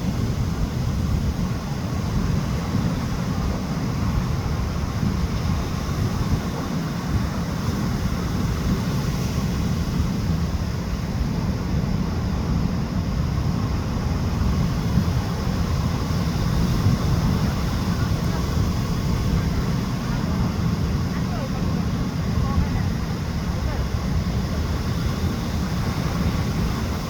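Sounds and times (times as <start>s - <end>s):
sea: 0.0s - 27.0s
wind buffeting microphone: 0.0s - 27.0s.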